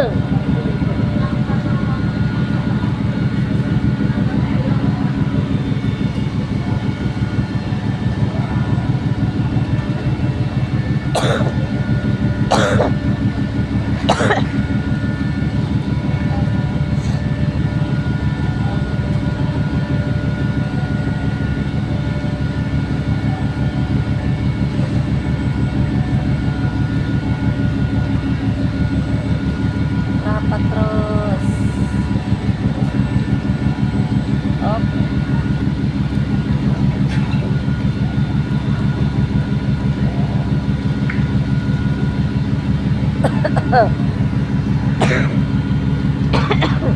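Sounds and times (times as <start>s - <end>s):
ferry engines rumbling: 0.0s - 46.9s
hum of steady tones: 0.0s - 46.9s.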